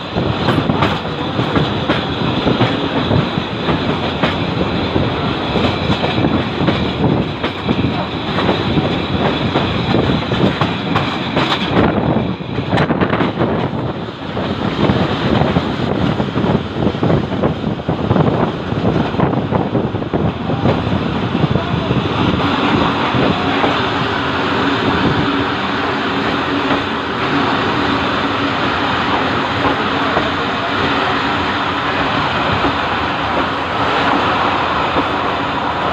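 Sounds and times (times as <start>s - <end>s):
train wheels clattering over rails: 0.0s - 21.0s, 21.6s - 35.9s.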